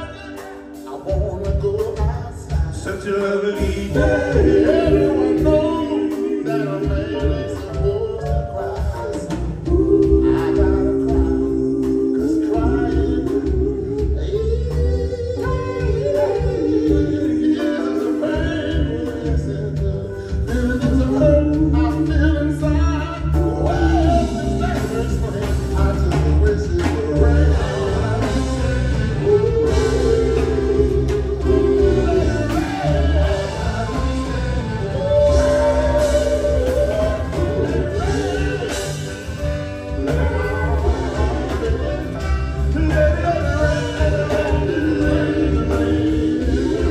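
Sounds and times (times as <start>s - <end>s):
soul band playing ballad: 0.0s - 46.9s
vocal group singing harmonies: 0.0s - 46.9s.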